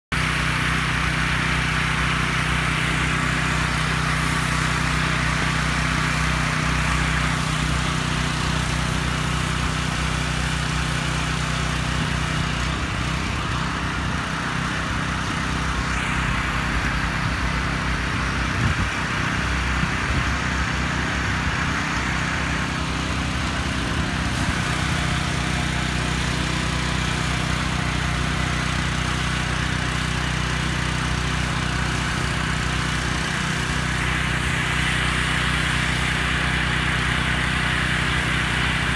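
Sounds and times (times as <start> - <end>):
pressure washer engine hum: 0.1 - 38.9
spraying water hiss: 0.2 - 38.9.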